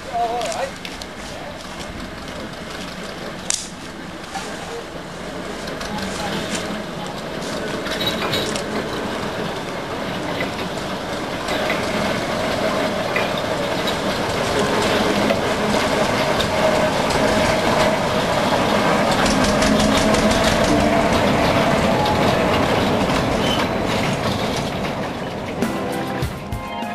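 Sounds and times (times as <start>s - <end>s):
wheels clicking over rail joints: 0.0s - 25.7s
small locomotive running: 0.0s - 26.3s.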